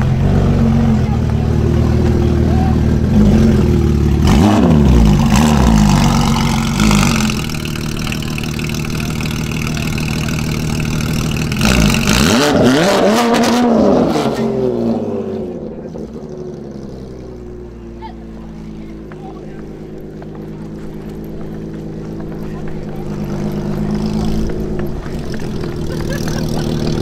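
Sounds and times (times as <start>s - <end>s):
car driving off: 0.0s - 27.0s
car engine idling: 0.0s - 27.0s
sports car engine revving: 0.0s - 27.0s.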